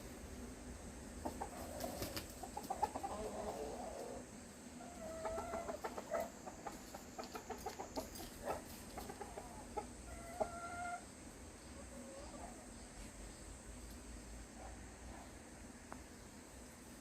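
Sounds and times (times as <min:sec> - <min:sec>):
chickens clucking: 0:01.0 - 0:15.3.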